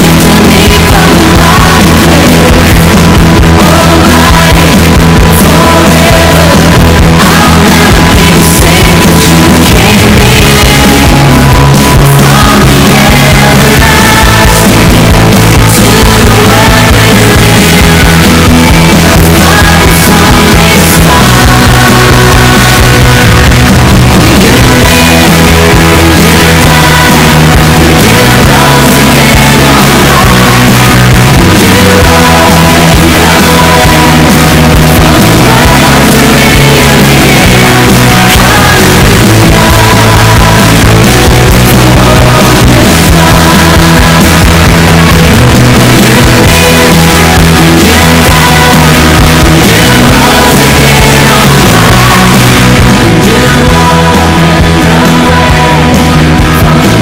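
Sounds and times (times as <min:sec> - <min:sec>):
rock band music: 0:00.0 - 0:57.0.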